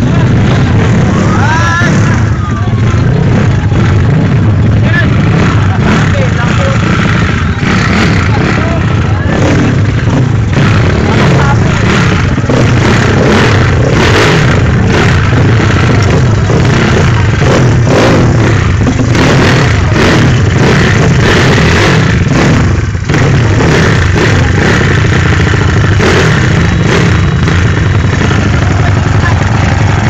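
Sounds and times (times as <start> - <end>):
scooter engine revving loudly: 0.0 - 30.0.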